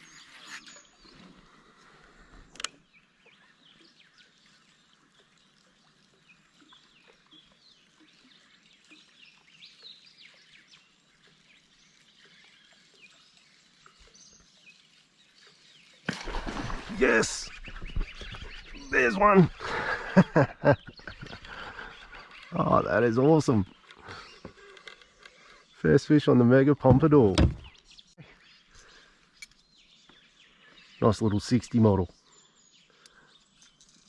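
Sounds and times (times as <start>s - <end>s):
birds chirping faintly: 0.0s - 34.0s.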